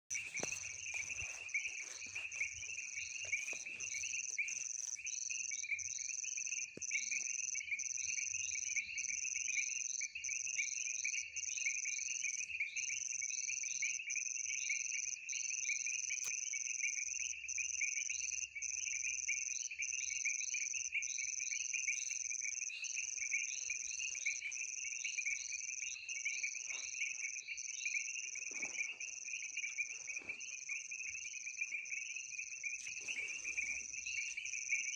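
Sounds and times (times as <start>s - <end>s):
pulsing frog and insect chorus: 0.1s - 34.9s.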